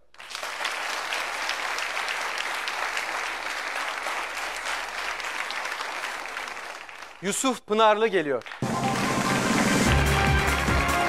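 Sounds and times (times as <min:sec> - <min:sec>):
audience applauding: 0:00.0 - 0:07.4, 0:08.4 - 0:11.0.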